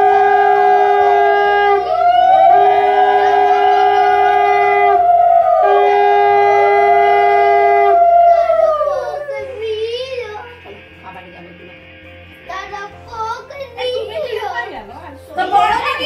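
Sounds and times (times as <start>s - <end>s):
conch shells blown: 0.0s - 13.0s.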